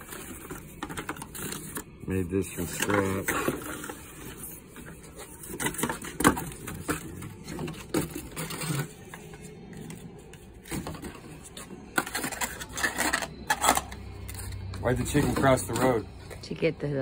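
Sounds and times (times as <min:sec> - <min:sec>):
cardboard and paper rustling: 0:00.0 - 0:16.4.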